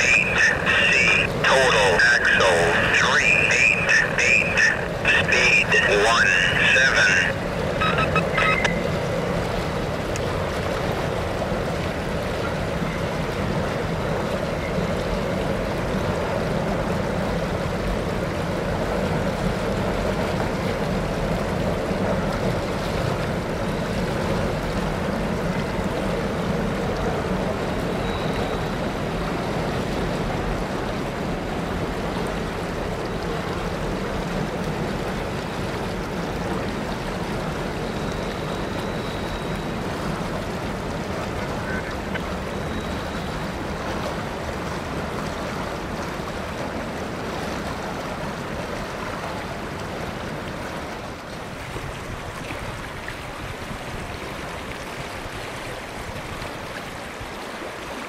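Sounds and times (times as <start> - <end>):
creek flowing: 0.0 - 58.0.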